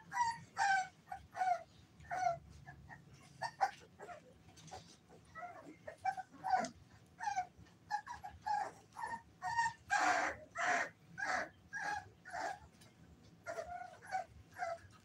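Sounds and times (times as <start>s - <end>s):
puppies whining and yipping: 0.0s - 15.0s.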